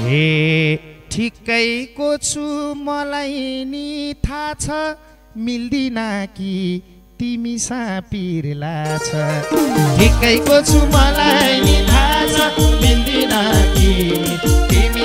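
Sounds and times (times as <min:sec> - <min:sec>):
man singing folk song: 0:00.0 - 0:15.0.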